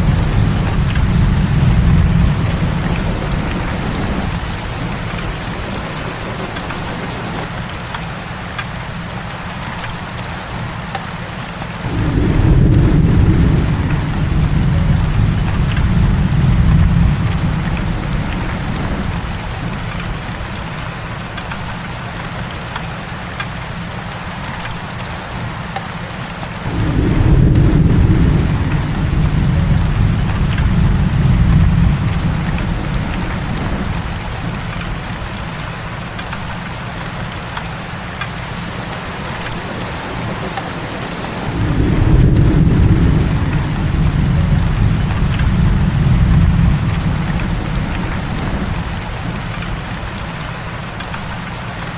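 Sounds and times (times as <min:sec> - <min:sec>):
thunder rumbling: 0:00.0 - 0:07.9, 0:11.8 - 0:21.9, 0:26.6 - 0:51.9
heavy rain falling: 0:00.0 - 0:51.9.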